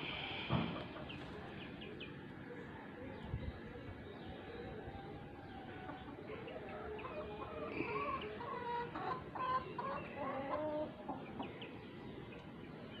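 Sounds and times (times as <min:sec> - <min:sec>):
chickens clucking: 0:00.0 - 0:12.7.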